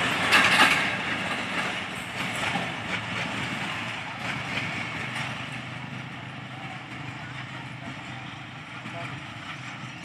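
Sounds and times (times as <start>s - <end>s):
train coaches clattering on rails: 0.0s - 10.0s.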